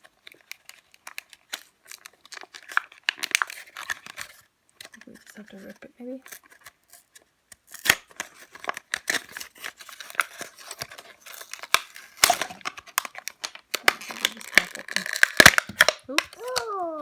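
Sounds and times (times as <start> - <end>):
plastic packaging being ripped open: 0.0 - 5.1, 6.3 - 17.0.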